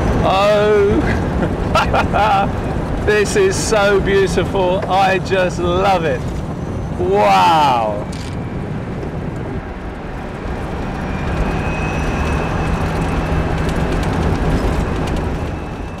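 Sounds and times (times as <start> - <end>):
low hum: 0.0 - 16.0
road and wind noise: 0.0 - 16.0
faint high whine: 3.1 - 16.0.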